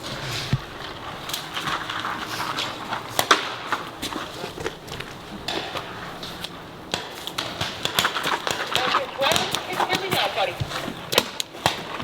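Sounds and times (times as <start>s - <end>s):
footsteps: 0.0s - 12.0s
rustling of people moving: 0.0s - 12.0s.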